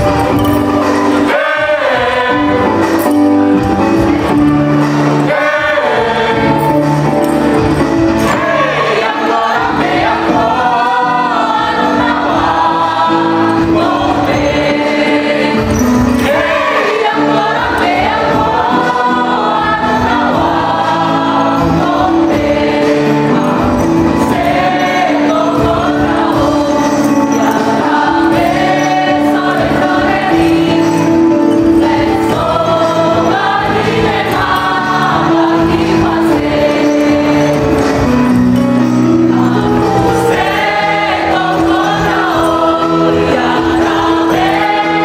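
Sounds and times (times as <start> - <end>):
choir singing: 0.0 - 45.0.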